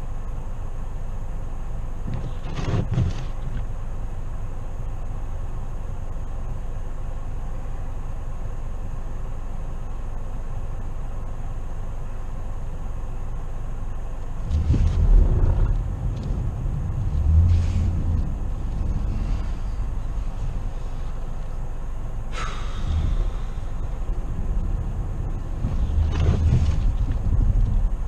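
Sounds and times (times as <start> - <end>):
car driving rumble inside cabin: 0.0 - 28.0.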